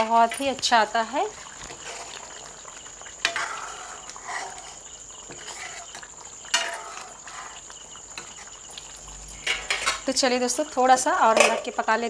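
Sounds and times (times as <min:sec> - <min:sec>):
ladle stirring thick gravy: 0:00.4 - 0:10.8.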